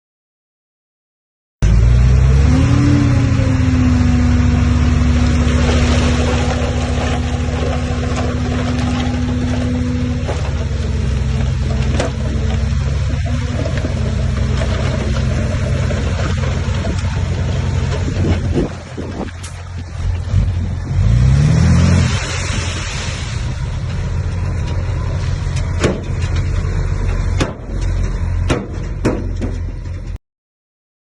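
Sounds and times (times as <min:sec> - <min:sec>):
heavy diesel engine running: 0:01.7 - 0:30.2.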